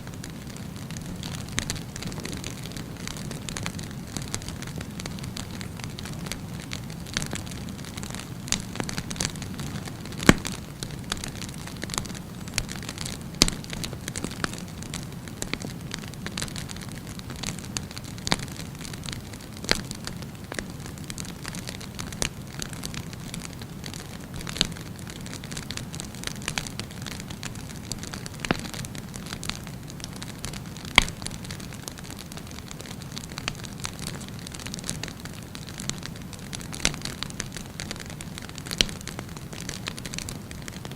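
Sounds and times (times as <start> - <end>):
crackles and pops of burning wood: 0.0 - 40.9
wood fire burning: 0.0 - 40.9.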